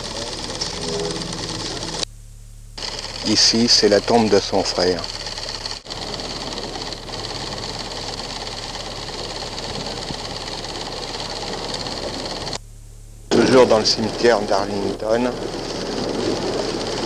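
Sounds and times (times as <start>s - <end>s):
film projector clatter: 0.0s - 2.0s, 2.8s - 12.6s, 13.3s - 17.0s
low mains hum: 0.0s - 17.0s.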